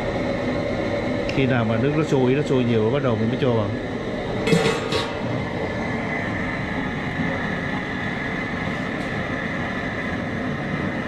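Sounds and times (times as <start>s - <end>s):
propane burner running: 0.0s - 11.0s.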